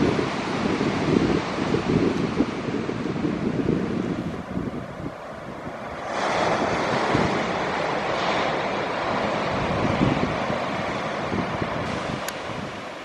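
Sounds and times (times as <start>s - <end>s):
distant jet engine roar: 0.0s - 13.0s
surf breaking on shore: 0.0s - 13.0s
wind buffeting microphone: 0.0s - 13.0s.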